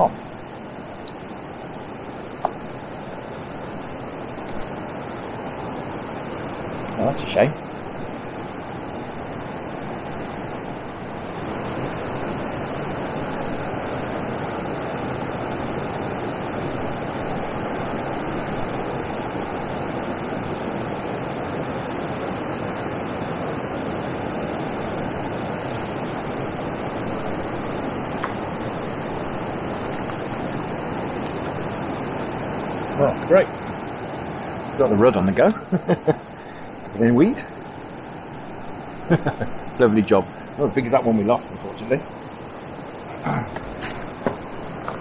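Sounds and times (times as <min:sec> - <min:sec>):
wind: 0:00.0 - 0:45.0.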